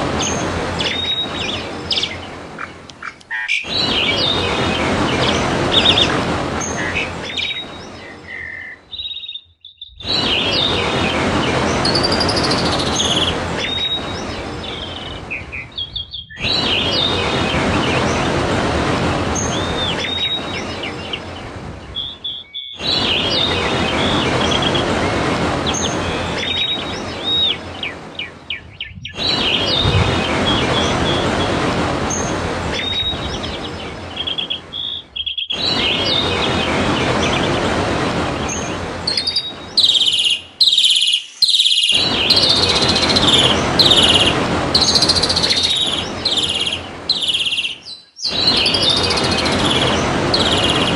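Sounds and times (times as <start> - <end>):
birds chirping and trilling: 0.0 - 18.4, 19.3 - 50.9.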